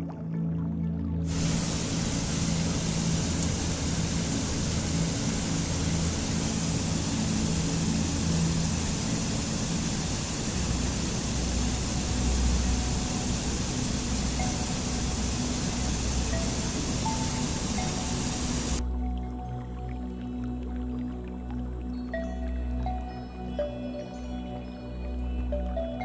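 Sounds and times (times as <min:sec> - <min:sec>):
low ambient music notes: 0:00.0 - 0:26.0
rushing water: 0:01.3 - 0:23.0.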